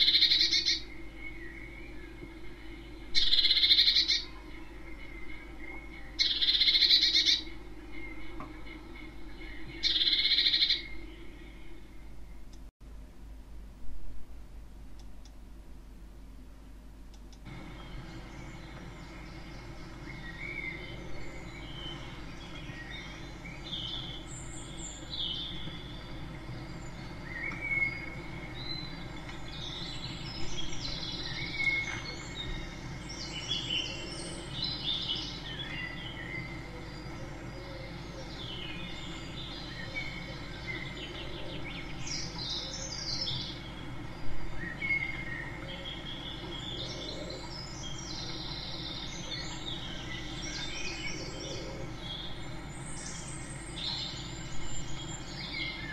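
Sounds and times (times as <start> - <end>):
songbirds chirping and trilling: 0.0 - 13.0, 14.7 - 55.9
low background rumble: 0.0 - 55.9.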